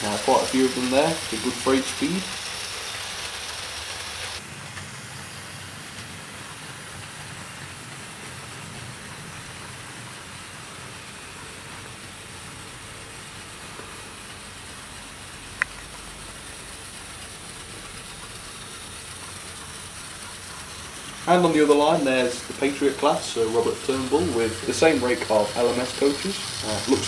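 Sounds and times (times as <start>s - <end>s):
model train rumbling on track: 0.0s - 27.0s
steady hiss: 0.0s - 27.0s.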